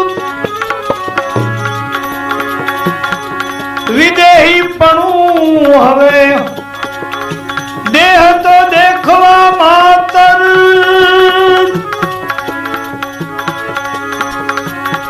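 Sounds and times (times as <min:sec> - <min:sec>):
drum strokes: 0:00.0 - 0:15.0
melodic accompaniment: 0:00.0 - 0:15.0.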